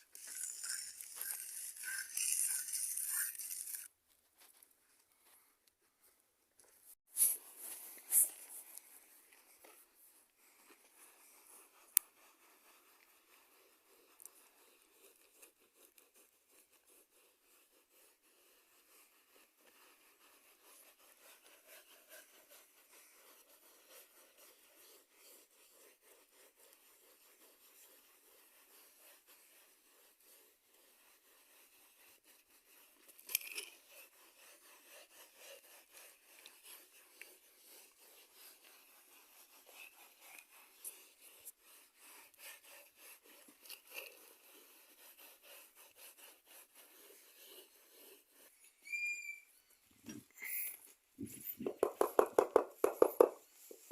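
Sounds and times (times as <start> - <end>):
faint scraping and rubbing: 0.0 - 53.9.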